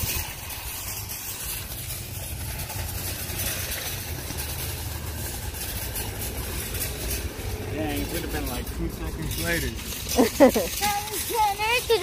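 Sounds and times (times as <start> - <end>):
shopping cart rolling over asphalt: 0.0 - 12.0.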